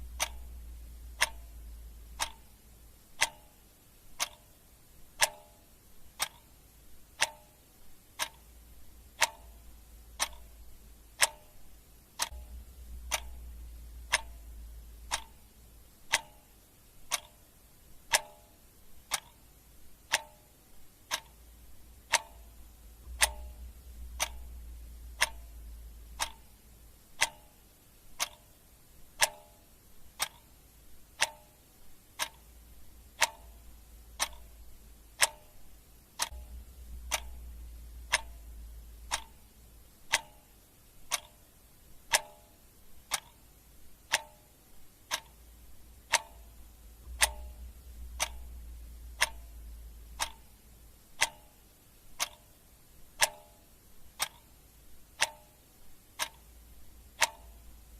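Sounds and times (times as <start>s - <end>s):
clock ticking: 0.0s - 57.9s.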